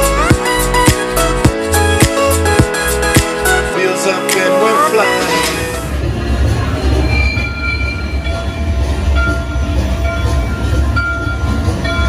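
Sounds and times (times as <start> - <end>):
low train rumble: 0.0 - 12.0.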